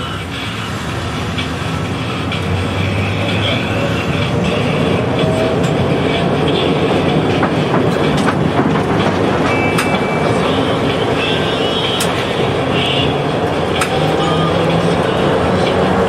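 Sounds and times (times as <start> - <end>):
tram wheels rumbling: 0.0 - 16.0
wheels clicking over rail joints: 1.3 - 16.0.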